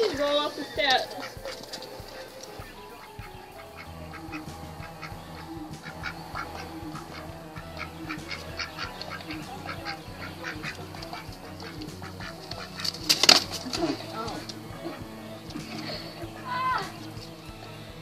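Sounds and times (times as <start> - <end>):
duck quacking: 0.0 - 18.0.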